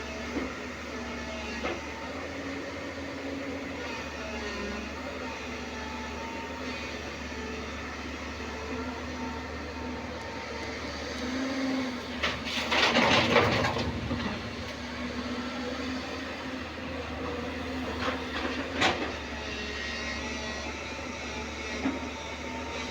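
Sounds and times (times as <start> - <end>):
excavator engine hum: 0.0 - 22.9.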